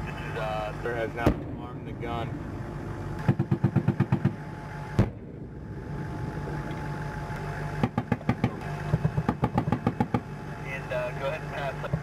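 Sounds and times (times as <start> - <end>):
tank engine running: 0.0 - 12.0.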